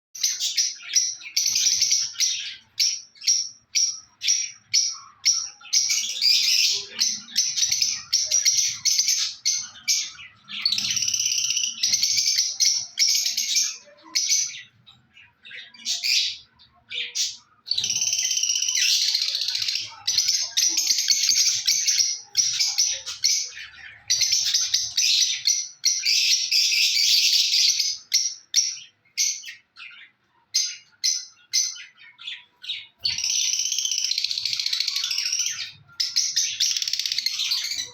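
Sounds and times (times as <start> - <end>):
lovebirds chirping and chattering: 0.2 - 37.9.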